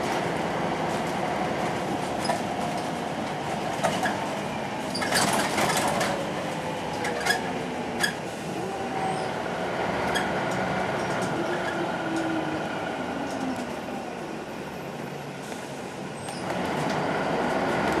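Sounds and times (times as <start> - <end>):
bus body rattling and clicking: 0.0 - 8.5, 9.1 - 18.0
bus engine rumble and whine: 0.0 - 18.0.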